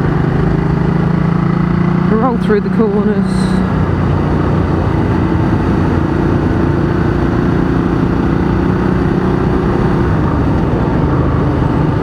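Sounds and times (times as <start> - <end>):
motorcycle engine with loud exhaust: 0.0 - 12.0.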